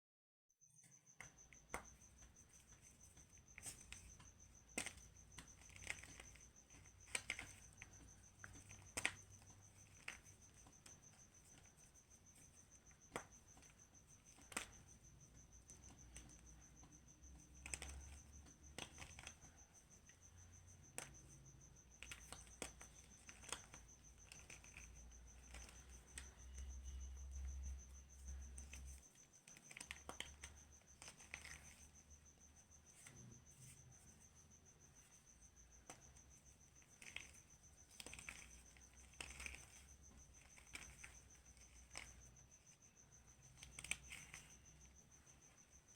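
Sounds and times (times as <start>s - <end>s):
chalk crushing and cracking: 0.8s - 45.9s.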